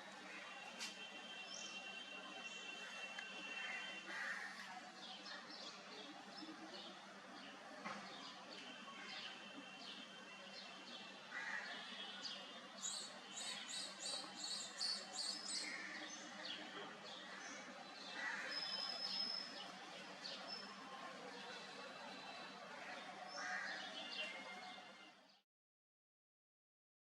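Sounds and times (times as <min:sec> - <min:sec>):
steady background noise: 0:00.0 - 0:25.2.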